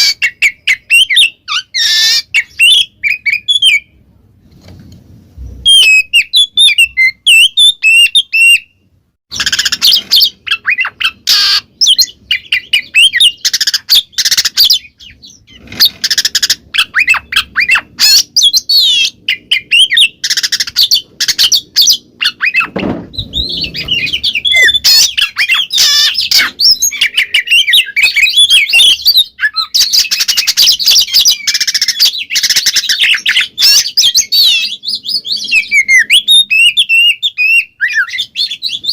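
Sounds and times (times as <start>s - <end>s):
bird singing: 0.0s - 4.0s, 5.6s - 38.9s.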